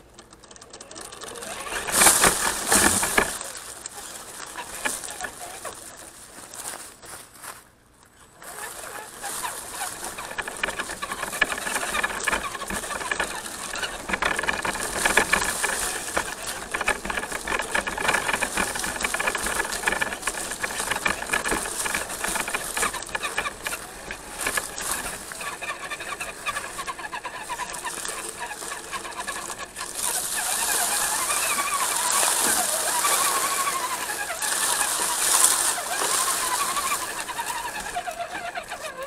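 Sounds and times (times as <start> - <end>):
electric motor whining: 0.0 - 6.2, 8.3 - 39.0
clicks and knocks on rocks: 1.3 - 7.2, 8.9 - 39.0.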